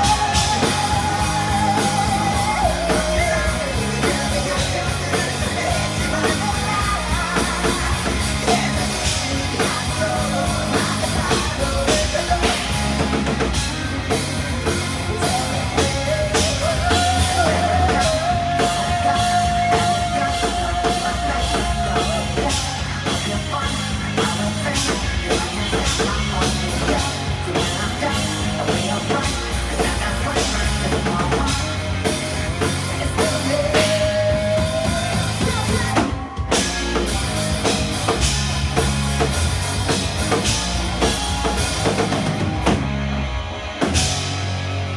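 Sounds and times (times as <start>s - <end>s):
bass guitar: 0.0s - 44.9s
drum kit beat: 0.0s - 44.9s
electric guitar: 0.0s - 44.9s.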